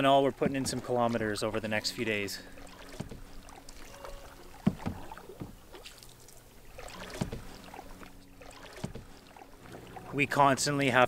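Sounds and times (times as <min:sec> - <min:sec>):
paddles stroking through water: 0:00.0 - 0:11.0.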